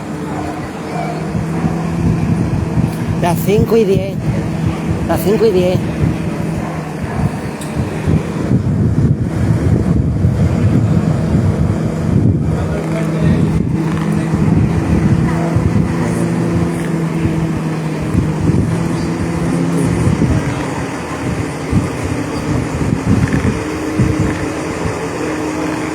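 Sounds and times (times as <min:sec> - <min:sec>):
heavy vehicle engine running: 0:00.0 - 0:03.6, 0:05.8 - 0:25.9.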